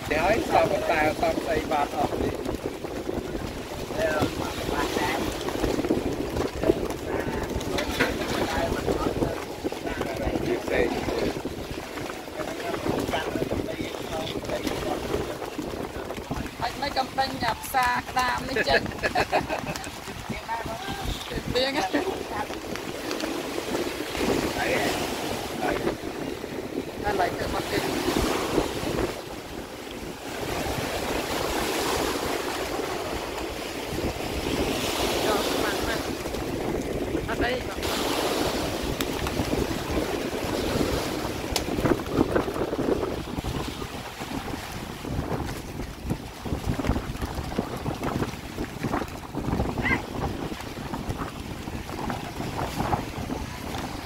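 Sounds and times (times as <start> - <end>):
sea waves: 0.0 - 54.0
wind buffeting microphone: 0.0 - 54.0
wind rushing: 0.0 - 54.0.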